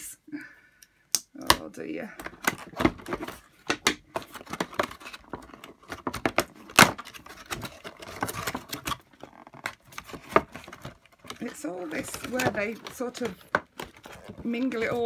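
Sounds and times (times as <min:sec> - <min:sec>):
plastic packaging crackling: 0:02.3 - 0:15.0.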